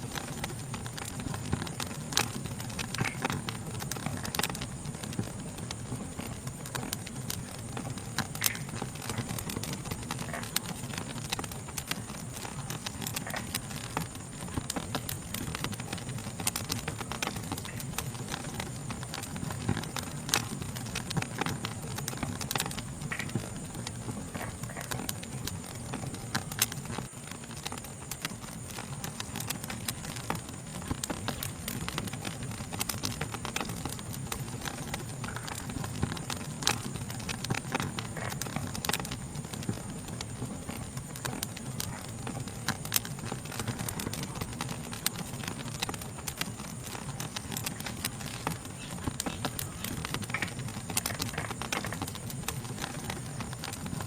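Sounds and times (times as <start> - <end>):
insect chorus: 0.0 - 54.0
wood fire crackling and popping: 0.0 - 54.0.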